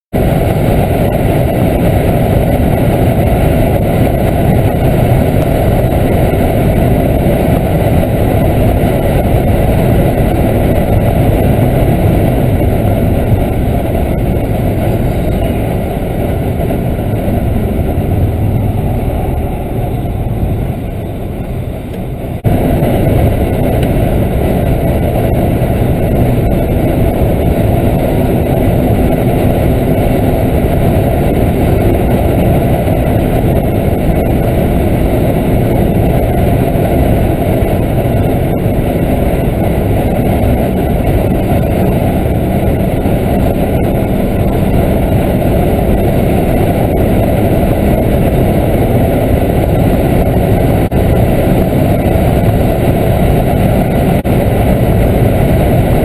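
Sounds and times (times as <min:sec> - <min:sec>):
car cabin road drone: 0:00.1 - 0:56.0.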